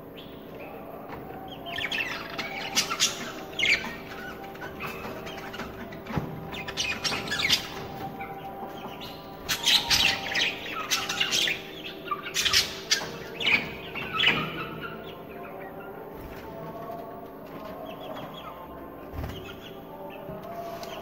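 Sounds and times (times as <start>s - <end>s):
budgerigars chirping and squawking: 0.1s - 16.8s, 17.7s - 21.0s.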